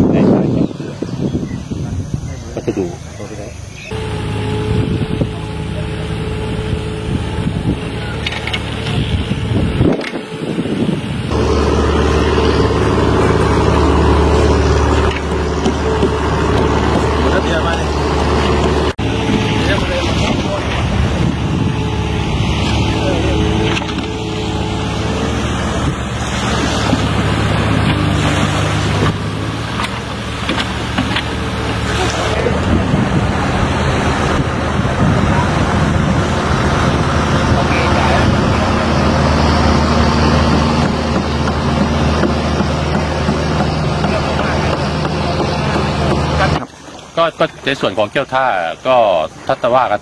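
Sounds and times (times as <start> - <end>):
wind buffeting microphone: 0.0 - 46.6
engine humming: 0.0 - 50.0.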